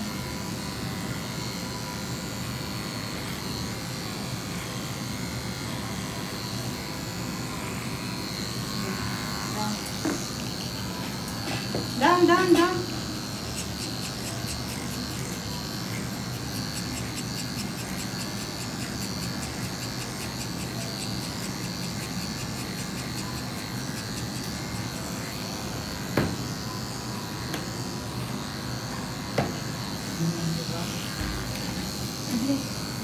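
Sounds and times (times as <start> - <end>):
electric clippers whining: 0.0 - 33.0.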